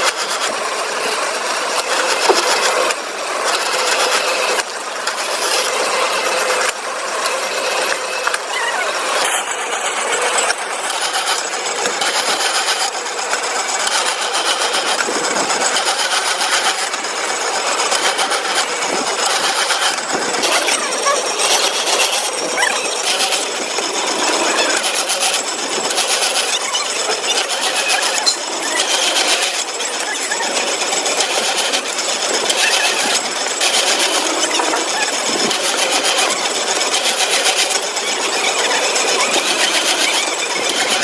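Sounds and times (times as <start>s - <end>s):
industrial machinery clattering: 0.0s - 41.0s.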